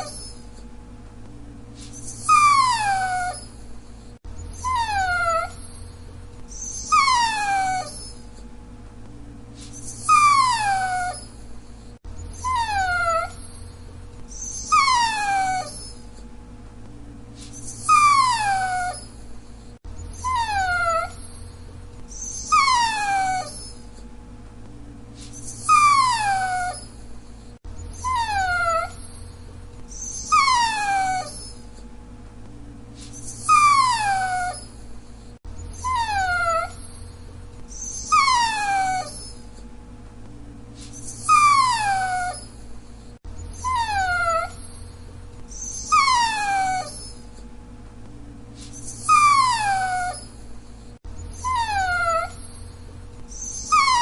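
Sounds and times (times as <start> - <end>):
dog whining: 0.0 - 0.7, 1.8 - 8.5, 9.6 - 16.3, 17.4 - 24.1, 25.2 - 31.9, 33.0 - 39.7, 40.8 - 47.5, 48.6 - 54.0.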